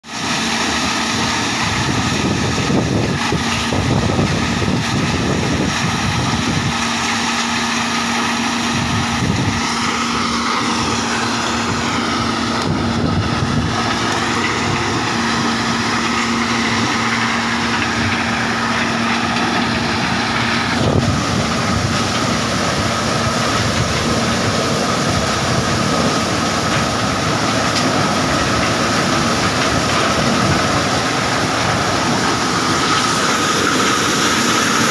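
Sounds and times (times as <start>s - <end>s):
thresher clattering: 0.6s - 34.9s.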